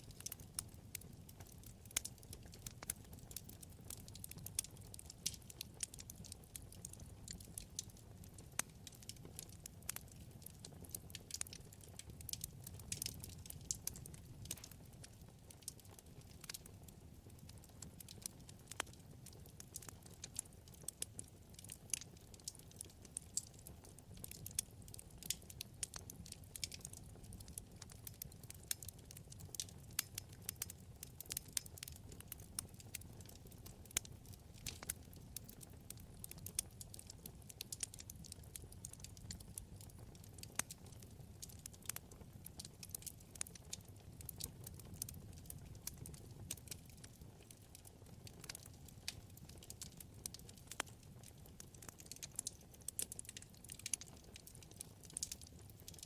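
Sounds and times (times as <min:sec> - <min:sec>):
burning wood crackling: 0:00.0 - 0:56.0.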